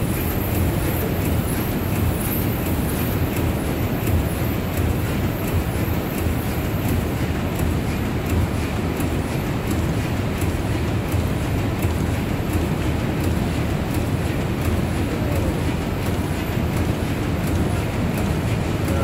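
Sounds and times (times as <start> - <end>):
steam pumping engines rumbling: 0.0 - 19.0.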